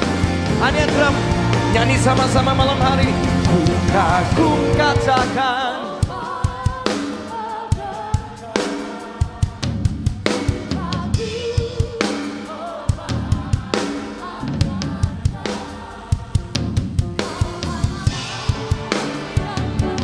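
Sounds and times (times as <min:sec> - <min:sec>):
drum kit playing: 0:00.0 - 0:20.0
people singing: 0:00.0 - 0:20.0.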